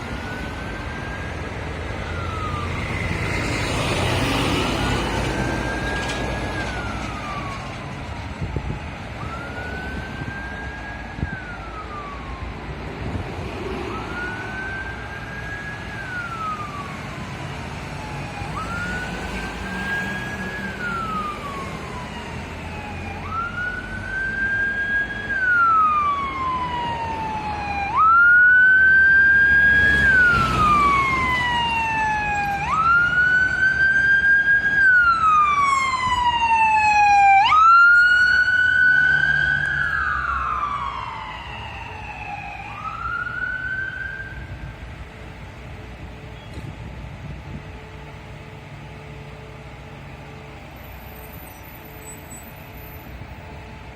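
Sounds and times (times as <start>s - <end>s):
siren wailing: 0.0s - 44.7s
low traffic rumble: 0.0s - 53.9s.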